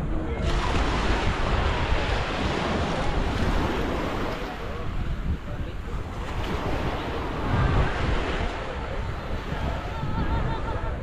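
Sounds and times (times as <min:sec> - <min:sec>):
faint voices: 0:00.0 - 0:11.0
small waves washing onto sand: 0:00.0 - 0:11.0
wind buffeting microphone: 0:00.0 - 0:11.0.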